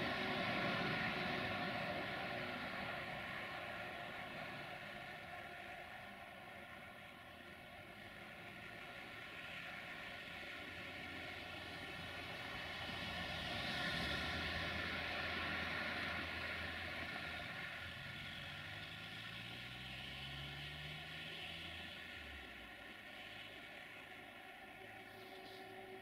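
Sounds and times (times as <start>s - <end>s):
diesel locomotive engine rumble: 0.0s - 19.7s, 21.3s - 26.0s.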